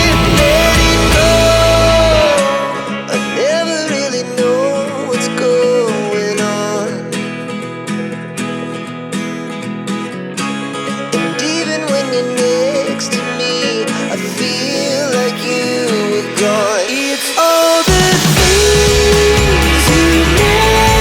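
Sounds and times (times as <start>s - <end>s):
background music with guitar: 0.0s - 21.0s.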